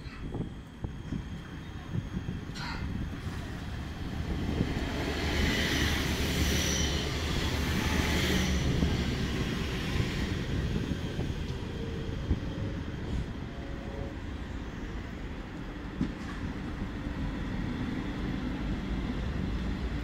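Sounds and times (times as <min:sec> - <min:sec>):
train rumbling with hiss: 0:00.0 - 0:20.0.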